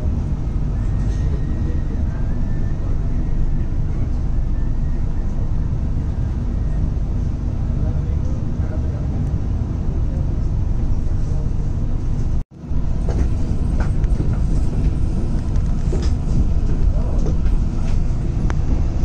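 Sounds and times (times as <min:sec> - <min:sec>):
low rumble of train interior: 0:00.0 - 0:19.0.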